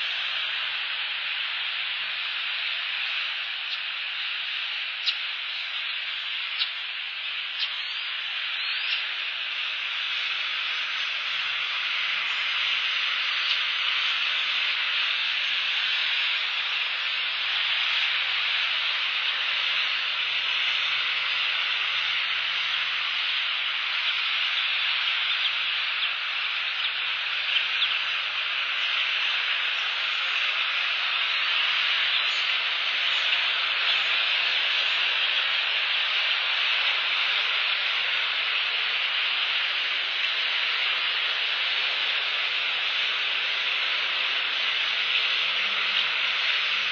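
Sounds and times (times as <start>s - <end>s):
steady rain hiss: 0.0s - 46.9s.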